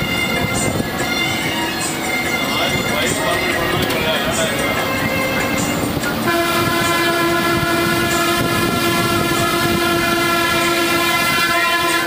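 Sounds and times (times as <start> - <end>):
bus engine running: 0.0 - 12.0
bus horn blast: 0.0 - 12.0.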